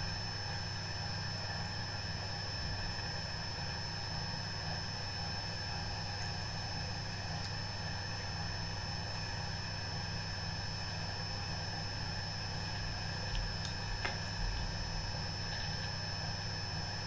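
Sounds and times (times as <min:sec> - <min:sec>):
potter's wheel humming and whining: 0:00.0 - 0:17.0.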